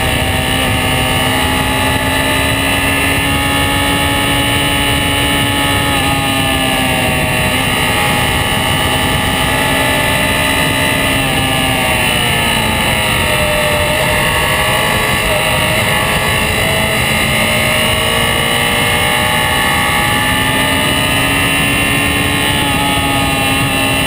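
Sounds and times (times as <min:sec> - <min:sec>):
heavy wind rush: 0:00.0 - 0:24.0
motorcycle engine running: 0:00.0 - 0:24.0.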